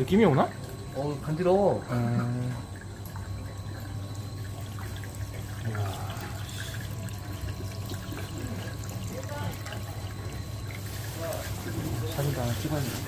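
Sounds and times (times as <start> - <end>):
low steady hum: 0.0 - 13.0
water drips and splashes: 0.0 - 13.0
water trickling: 0.0 - 13.0.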